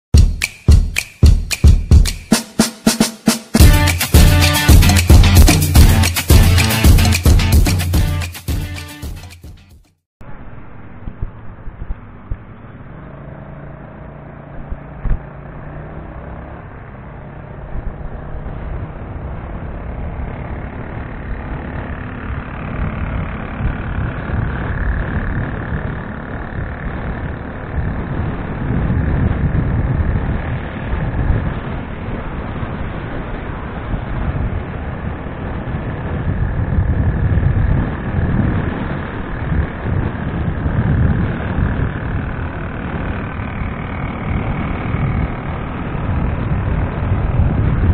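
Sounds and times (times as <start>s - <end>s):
road traffic: 0.2s - 47.9s
vehicle running and road noise: 0.2s - 47.9s.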